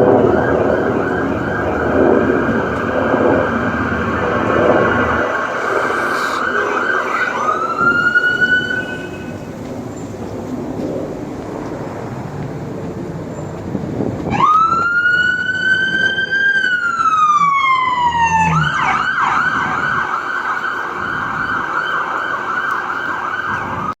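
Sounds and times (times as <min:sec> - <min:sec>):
emergency vehicle siren: 0:00.0 - 0:10.2, 0:14.2 - 0:24.0.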